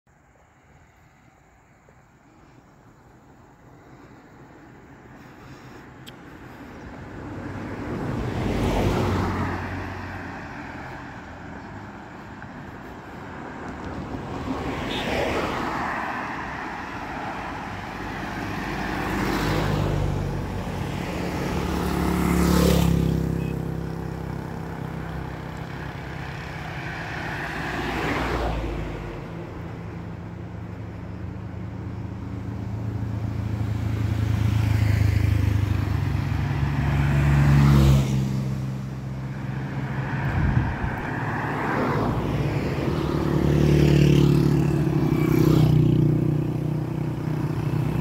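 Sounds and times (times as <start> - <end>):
cars passing: 0.1 - 48.0.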